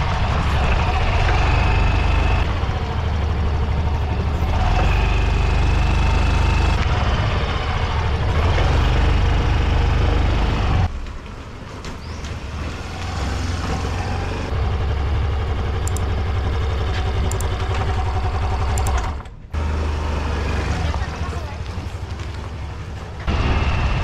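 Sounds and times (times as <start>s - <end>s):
road noise: 0.0s - 24.0s
scooter engine: 0.0s - 24.0s.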